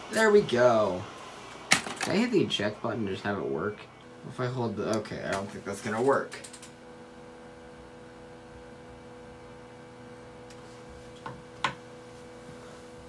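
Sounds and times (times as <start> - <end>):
computer fans humming: 0.0 - 13.0.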